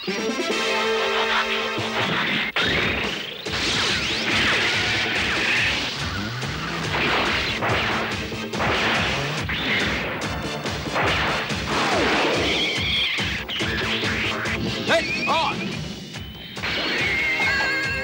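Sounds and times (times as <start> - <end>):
background music: 0.0 - 18.0
cartoon crashing impacts: 0.6 - 14.8, 16.6 - 18.0.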